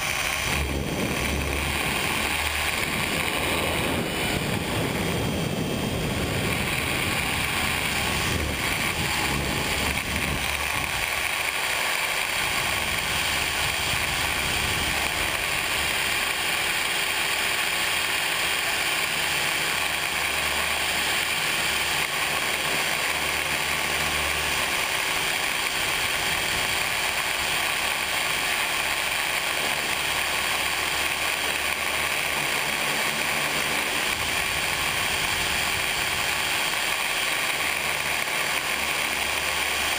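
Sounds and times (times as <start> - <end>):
model helicopter whine: 0.0 - 39.9.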